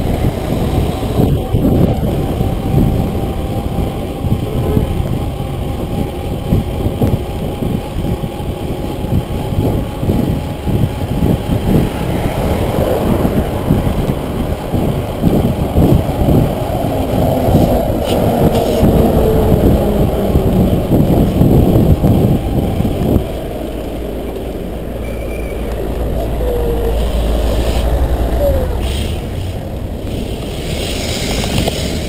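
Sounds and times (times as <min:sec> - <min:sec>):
bus engine drone: 0:00.0 - 0:32.0
low traffic rumble: 0:00.0 - 0:32.0
wind buffeting microphone: 0:00.0 - 0:32.0.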